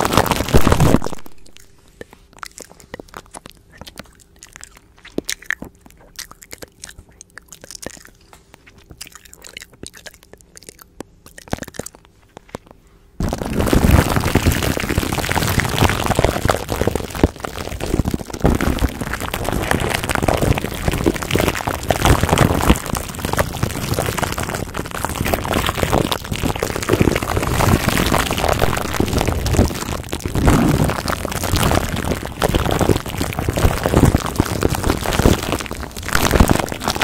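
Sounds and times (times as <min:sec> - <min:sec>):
plastic wrap crinkling: 0:00.0 - 0:37.0
mouth clicks: 0:00.1 - 0:37.0.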